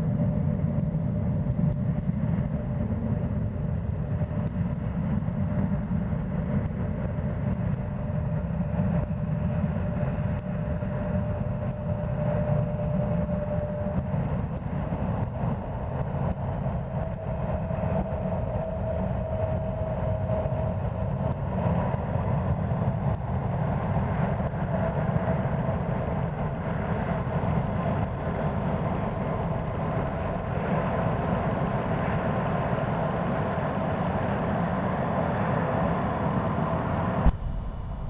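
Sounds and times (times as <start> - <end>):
engine rumble with faint whine: 0.0 - 38.0.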